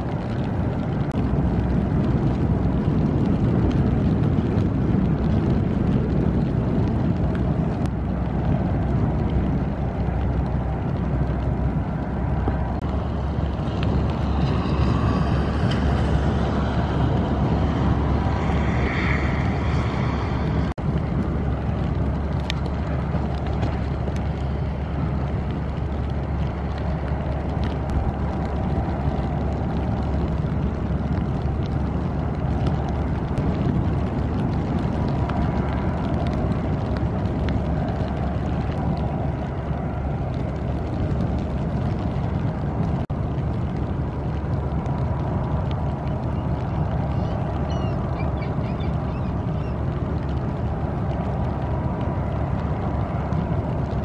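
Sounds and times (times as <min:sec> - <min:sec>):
ship engine low rumble: 0:00.0 - 0:54.0
ship wash across water: 0:00.0 - 0:54.0.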